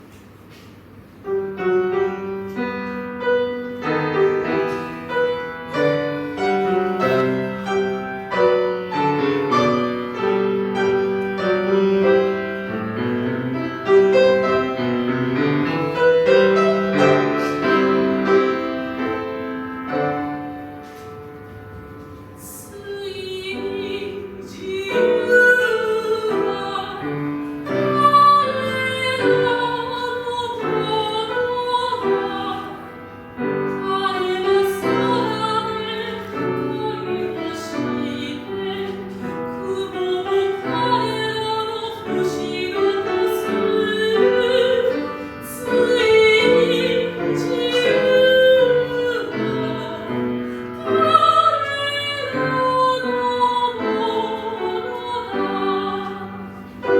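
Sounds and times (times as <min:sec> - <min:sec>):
piano accompaniment: 0:00.0 - 0:56.9
soprano singing: 0:01.5 - 0:20.8, 0:22.1 - 0:56.9.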